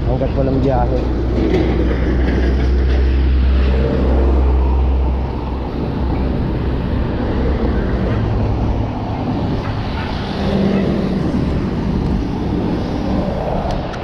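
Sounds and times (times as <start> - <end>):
road and traffic noise: 0.0 - 14.0
wind rumbling on microphone: 0.0 - 14.0.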